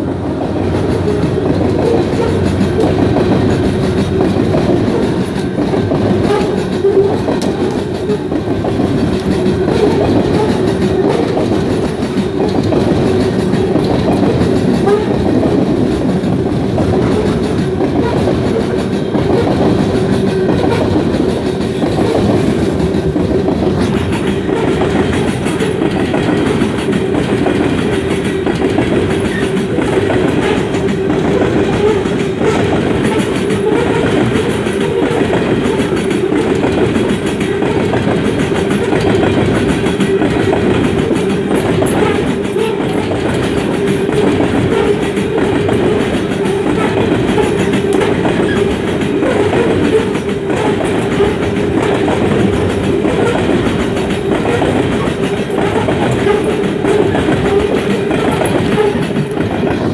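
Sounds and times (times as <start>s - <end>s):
train cars rolling on rails: 0.0s - 59.9s.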